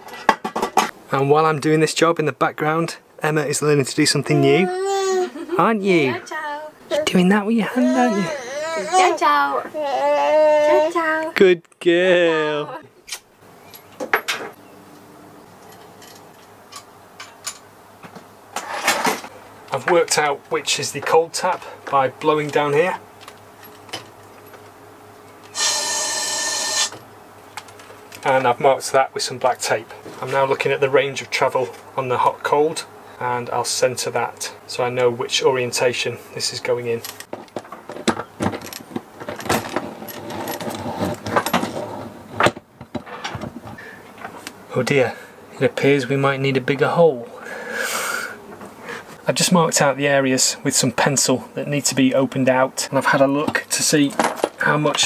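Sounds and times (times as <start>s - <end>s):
low steady background hum: 0.0s - 55.0s.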